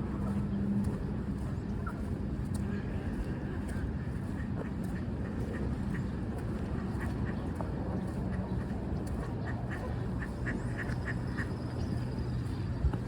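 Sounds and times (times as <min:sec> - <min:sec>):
steady low rumble: 0:00.0 - 0:13.0
ducks quacking: 0:01.8 - 0:12.6.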